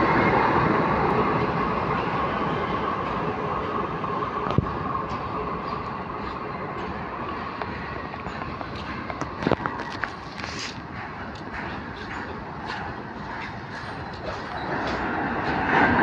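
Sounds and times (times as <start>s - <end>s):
freight train passing: 0.0s - 16.0s.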